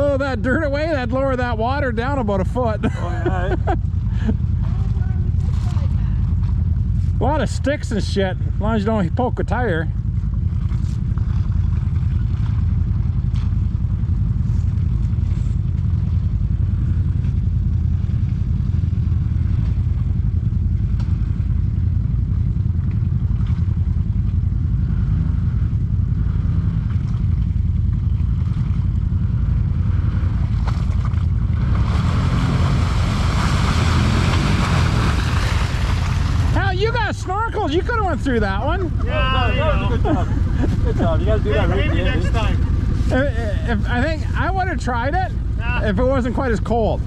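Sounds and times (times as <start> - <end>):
off-road vehicle engine running: 0.0 - 47.0.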